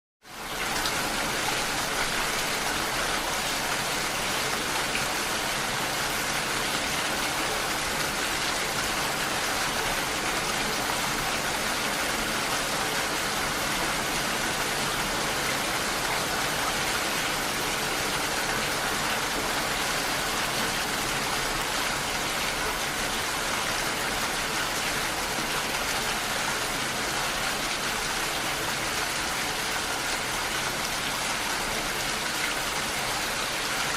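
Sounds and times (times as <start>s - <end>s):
rain falling: 0.3s - 33.9s.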